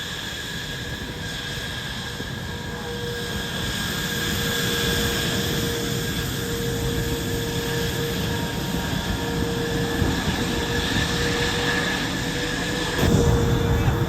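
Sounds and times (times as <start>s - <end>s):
high engine whine: 0.0s - 14.0s
jet engine running: 0.0s - 14.0s.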